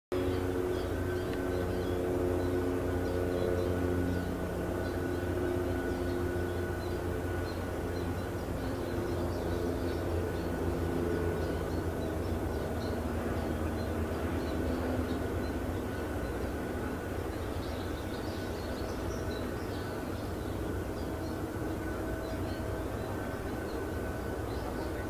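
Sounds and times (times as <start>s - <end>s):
distant engine drone: 0.1s - 25.0s
wavering pitched hum: 0.1s - 25.0s.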